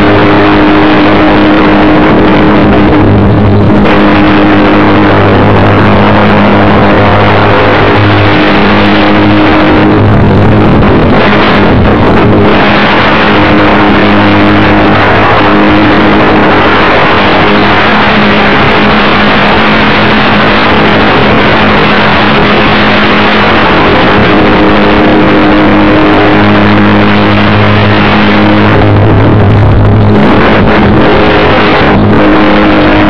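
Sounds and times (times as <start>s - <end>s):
model airplane motor and propeller: 0.0s - 33.0s
steady low hum: 0.0s - 33.0s
wind rushing on microphone: 0.0s - 33.0s.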